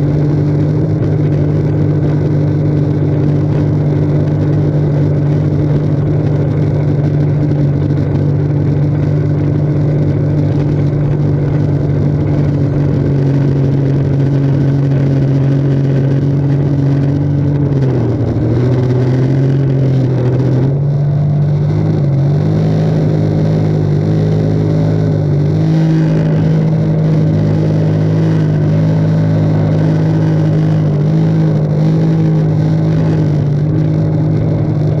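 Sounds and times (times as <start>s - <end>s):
jet ski engine running: 0.0s - 35.0s.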